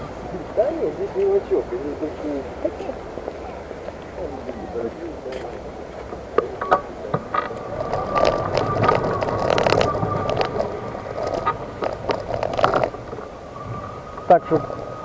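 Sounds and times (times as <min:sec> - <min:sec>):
wheels rattling and scraping: 0:00.0 - 0:15.0.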